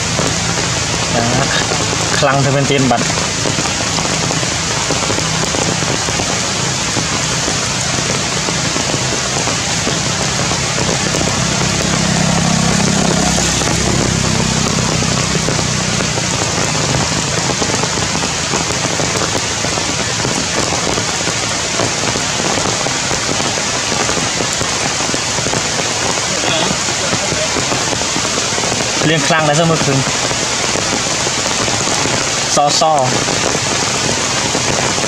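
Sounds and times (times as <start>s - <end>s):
low rumble: 0.0s - 32.4s
heavy rain on foliage: 0.0s - 35.0s.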